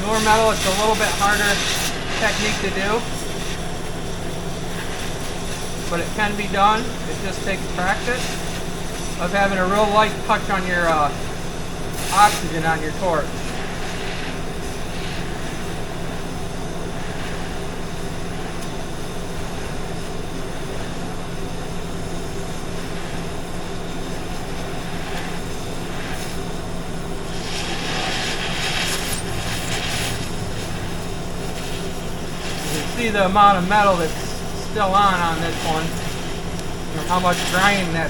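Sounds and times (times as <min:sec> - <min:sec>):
cutting torch hissing roar: 0:00.0 - 0:38.0.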